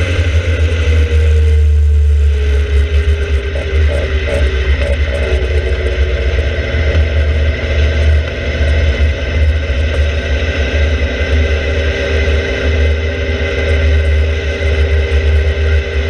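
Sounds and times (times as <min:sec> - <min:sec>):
sports car engine running: 0:00.0 - 0:16.0.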